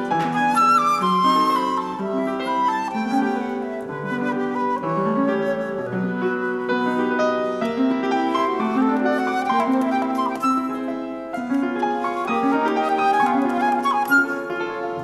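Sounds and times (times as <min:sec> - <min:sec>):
grand piano playing: 0:00.0 - 0:15.0
sliding held melody line: 0:00.0 - 0:15.0.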